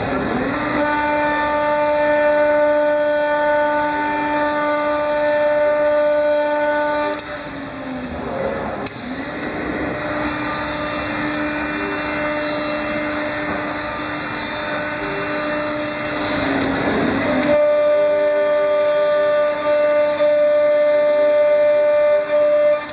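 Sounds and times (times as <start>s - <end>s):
spindle motor whine: 0.0s - 22.9s.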